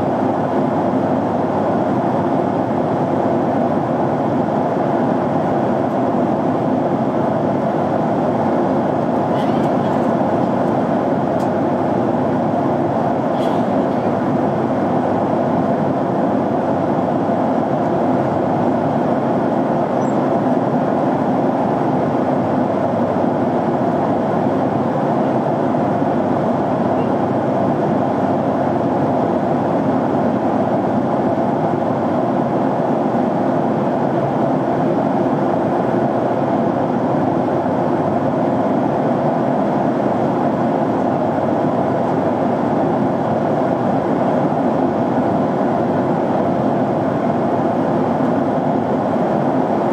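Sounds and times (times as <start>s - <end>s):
airliner cabin engine rushing: 0.0s - 49.9s.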